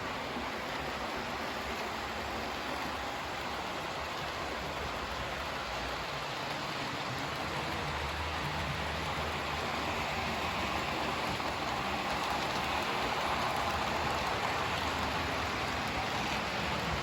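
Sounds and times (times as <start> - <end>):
model trains whirring on track: 0.0 - 17.0.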